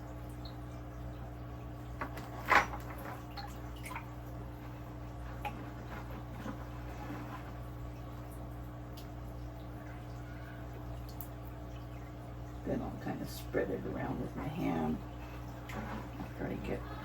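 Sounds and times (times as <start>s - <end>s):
water dripping and splashing: 0.0s - 16.9s
steady low hum: 0.0s - 17.0s.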